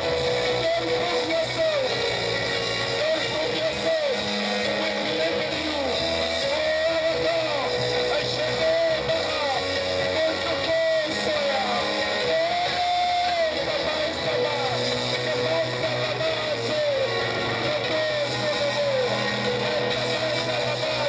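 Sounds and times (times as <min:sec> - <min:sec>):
church music led by guitar: 0:00.0 - 0:21.0.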